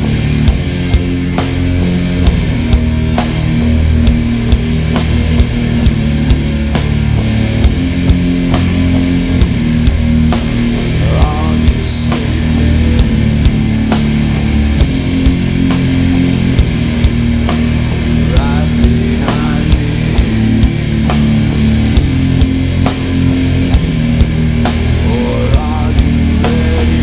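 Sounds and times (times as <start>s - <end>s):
heavy rock song: 0.0s - 27.0s.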